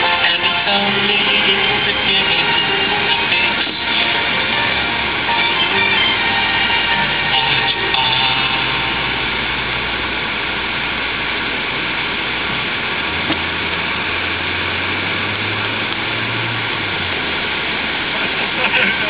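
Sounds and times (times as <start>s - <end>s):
car road noise hiss: 0.0s - 19.0s
low engine hum: 0.0s - 19.0s.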